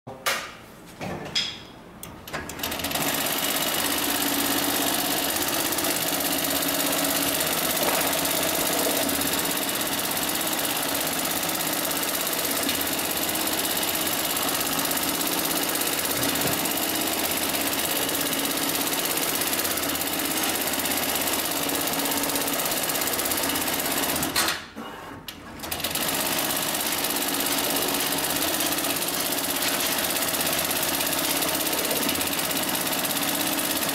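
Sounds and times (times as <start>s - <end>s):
sewing machine stitching: 2.4s - 24.4s, 25.4s - 33.9s.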